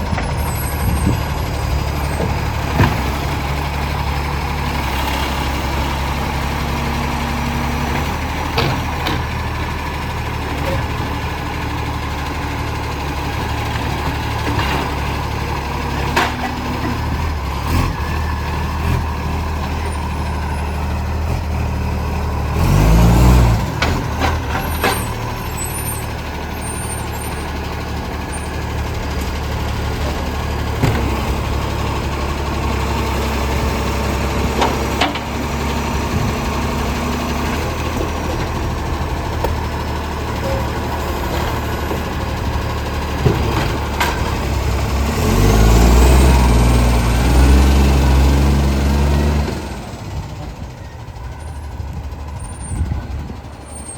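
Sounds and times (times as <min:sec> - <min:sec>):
truck diesel engine roaring: 0:00.0 - 0:53.9.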